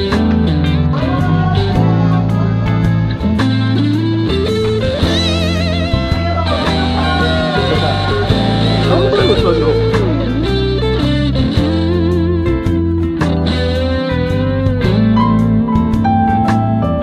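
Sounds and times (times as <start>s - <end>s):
blues-rock electric guitar music: 0.0s - 17.0s.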